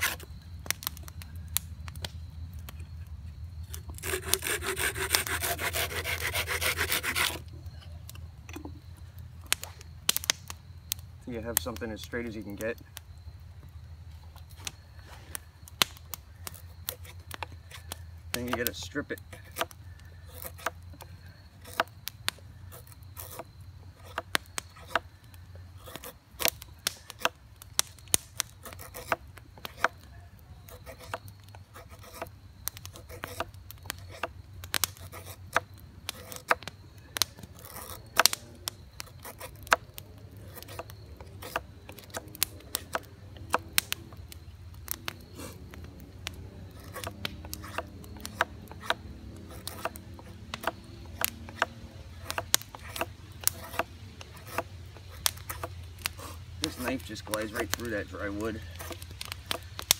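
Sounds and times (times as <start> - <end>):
knife carving a wooden stick: 0.0 - 1.0, 3.6 - 8.8, 15.8 - 25.1, 25.8 - 59.9.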